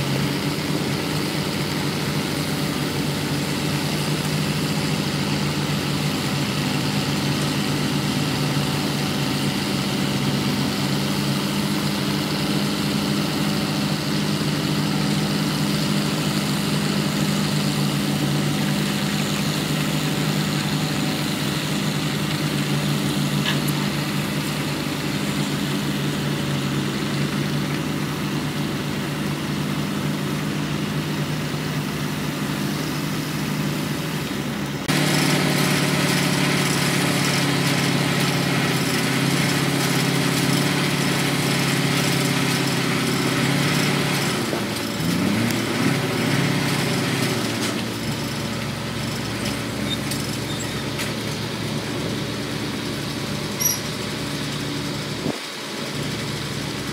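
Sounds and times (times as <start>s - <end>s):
engine revving: 0.0s - 53.8s
diesel construction machinery engines: 0.0s - 56.9s.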